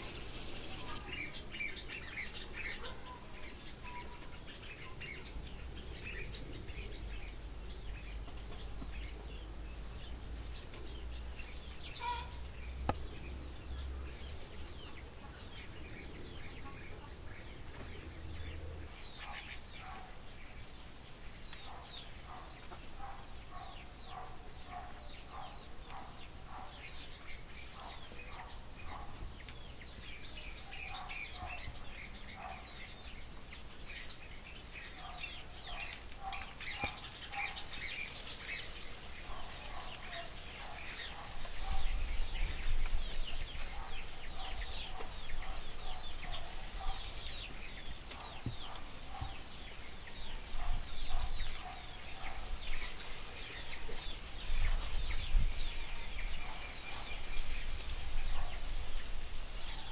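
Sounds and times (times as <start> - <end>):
low repeated bird notes: 0.0 - 59.9
small birds chirping: 0.0 - 59.9.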